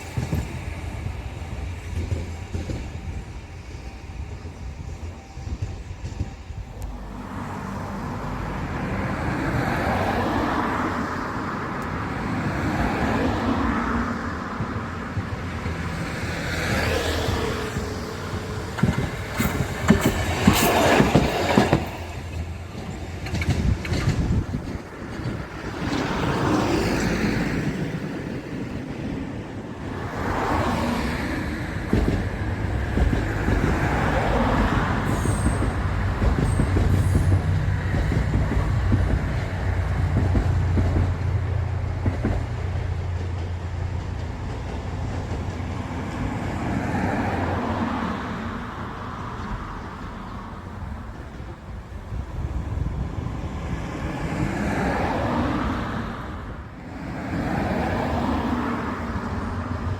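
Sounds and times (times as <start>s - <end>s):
diesel railcar rumble: 0.0s - 59.9s
road vehicles passing: 0.0s - 59.9s.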